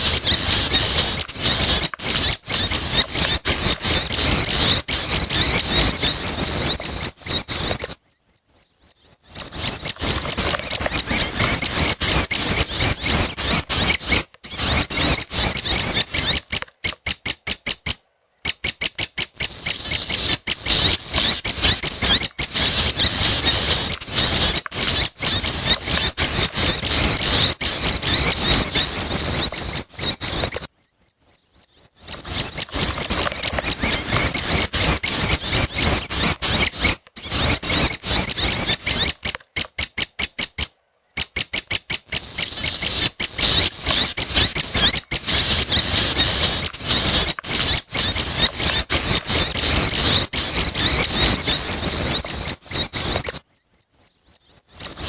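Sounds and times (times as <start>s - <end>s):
young birds squeaky chatter: 0.0s - 55.0s.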